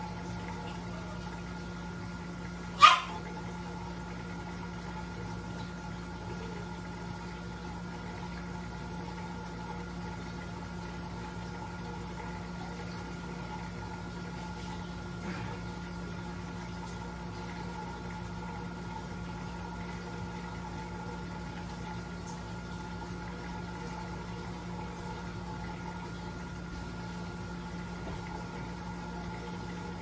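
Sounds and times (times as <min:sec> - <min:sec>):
electrical appliance hum: 0:00.0 - 0:30.0.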